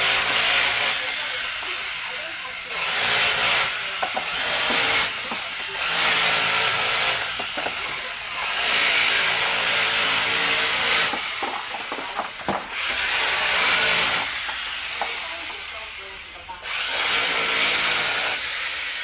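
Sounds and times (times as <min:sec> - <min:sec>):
electric drill boring into wall: 0:00.0 - 0:19.0.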